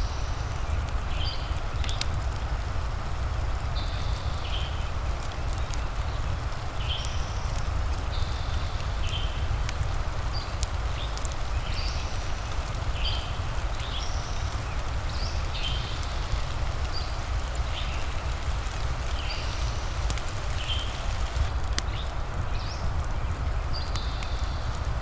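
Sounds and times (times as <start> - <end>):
deep constant rumble: 0.0 - 25.0
fire crackling: 0.0 - 25.0
steady rain: 0.0 - 25.0.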